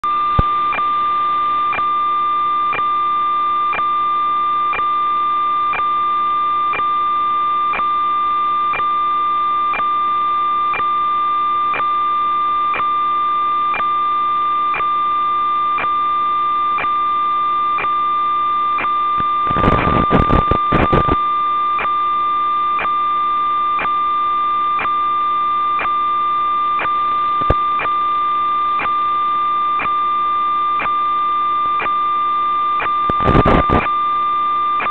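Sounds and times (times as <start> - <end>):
crackling static: 0.0 - 8.0, 9.6 - 34.9
steady electronic whine: 0.0 - 34.9.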